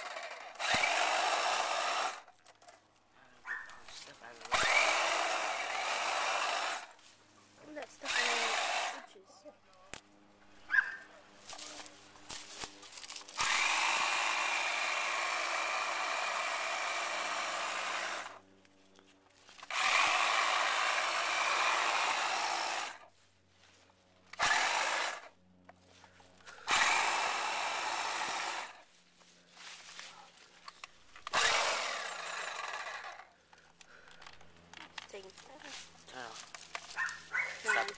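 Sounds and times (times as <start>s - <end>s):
chainsaw cutting woody stalk: 0.0s - 2.8s, 3.4s - 9.2s, 10.7s - 23.2s, 24.2s - 37.9s.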